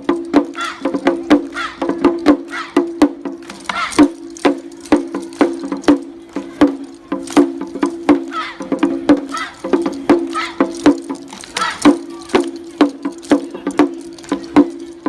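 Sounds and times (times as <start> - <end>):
drum beaten in quick rhythm: 0.0 - 15.0
sharp wooden clacks: 0.0 - 15.0.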